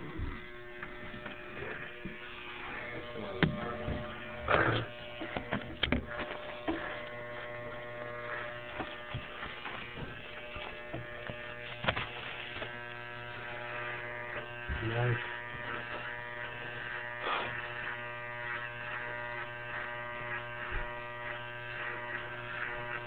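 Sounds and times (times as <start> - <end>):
electric shaver buzzing: 0.0 - 23.0.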